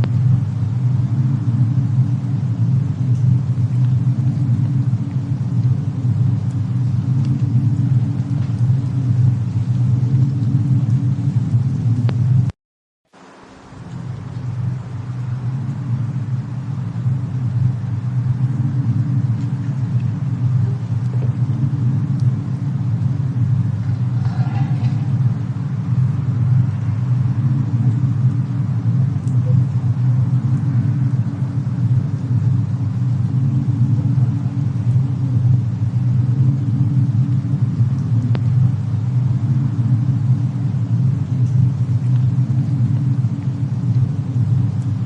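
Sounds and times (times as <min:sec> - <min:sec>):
deep rumble of snowstorm wind: 0:00.0 - 0:12.6, 0:13.3 - 0:45.0
faint fire crackles: 0:00.0 - 0:45.0.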